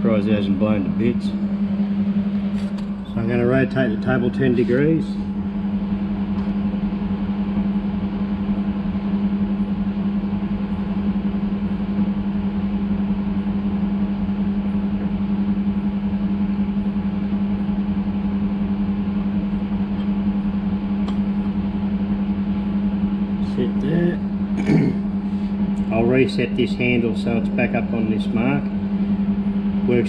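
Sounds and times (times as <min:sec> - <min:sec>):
milling machine humming: 0:00.0 - 0:30.0.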